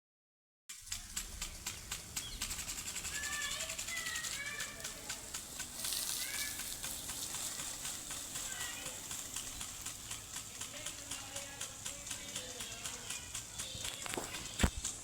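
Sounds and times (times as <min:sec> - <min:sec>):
fountain water splashing: 0:00.7 - 0:15.0
birds chirping: 0:00.8 - 0:15.0.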